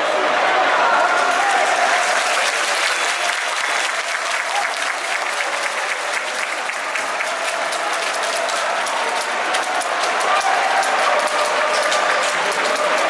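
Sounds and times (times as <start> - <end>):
crowd cheering: 0.0 - 13.0
crowd clapping: 0.0 - 13.0
crowd voices: 0.0 - 13.0.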